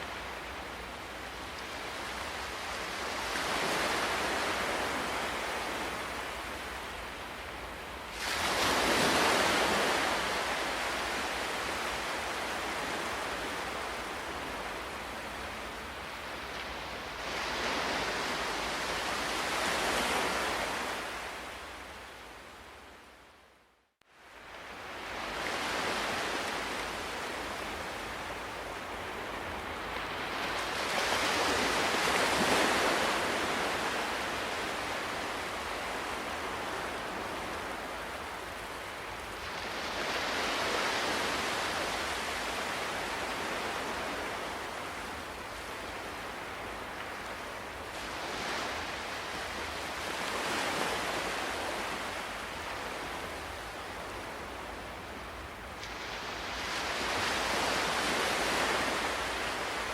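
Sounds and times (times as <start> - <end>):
ocean waves breaking: 8.1 - 21.9, 24.8 - 59.9.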